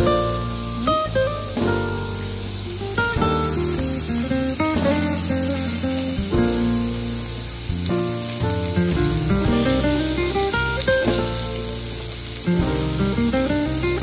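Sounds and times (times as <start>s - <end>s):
beef sizzling on grill plate: 0.0s - 14.0s
plucked guitar music: 0.0s - 14.0s.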